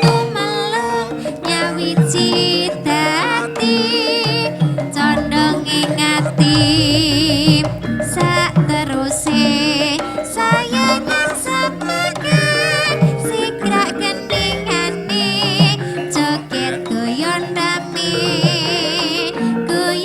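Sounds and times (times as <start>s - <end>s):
gamelan ensemble playing: 0.0s - 20.0s.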